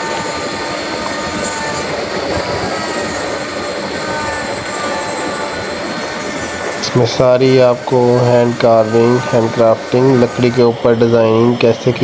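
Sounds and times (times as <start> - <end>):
electric router cutting wood: 0.0 - 12.0.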